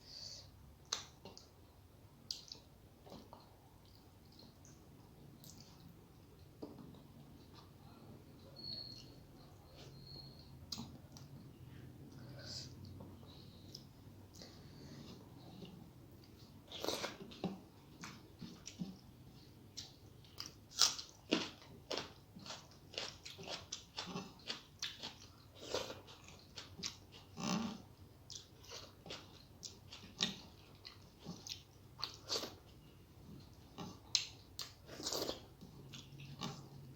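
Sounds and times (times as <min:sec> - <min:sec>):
person chewing food: 0:02.3 - 0:08.0, 0:09.7 - 0:36.9.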